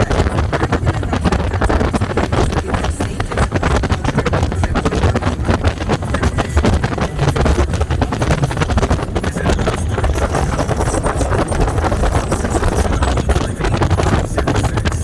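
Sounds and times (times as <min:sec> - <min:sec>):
boat motor rumbling: 0:00.0 - 0:15.0
wind buffeting microphone: 0:00.0 - 0:15.0.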